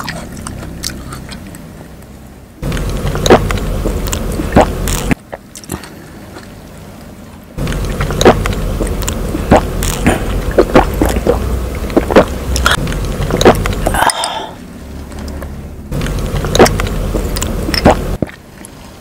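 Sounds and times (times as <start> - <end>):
biting and sucking watermelon: 0.0 - 6.7, 7.6 - 19.0.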